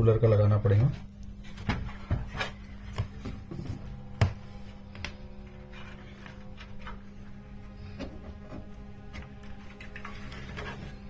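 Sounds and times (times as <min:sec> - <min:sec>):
faint background music: 0:00.0 - 0:11.0
low steady hum: 0:00.0 - 0:11.0.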